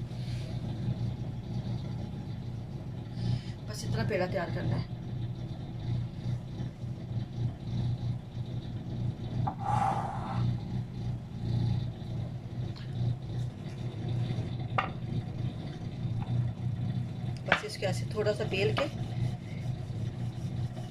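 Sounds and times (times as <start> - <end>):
low pulsing mechanical hum: 0.0 - 20.9.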